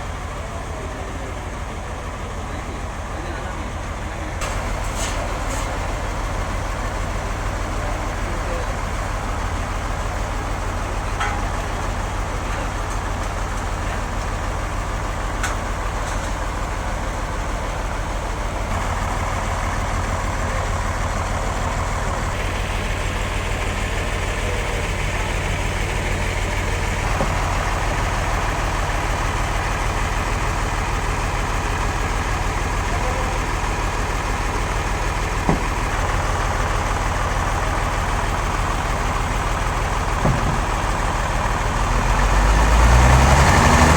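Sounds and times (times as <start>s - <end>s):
sawmill machinery drone: 0.0s - 43.9s.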